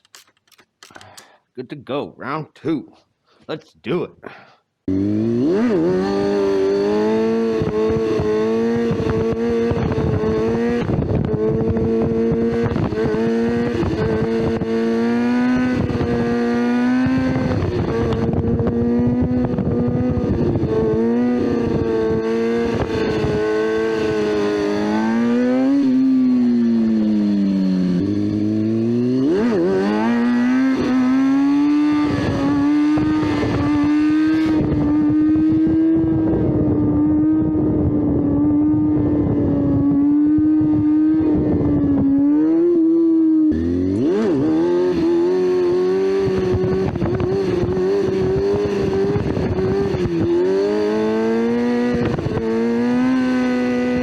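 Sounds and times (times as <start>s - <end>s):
motorcycle engine revving: 4.8s - 54.0s.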